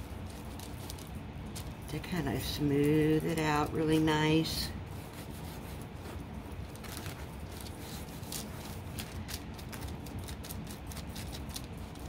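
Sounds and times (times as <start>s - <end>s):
hands rubbing wax paper: 0.0s - 12.0s.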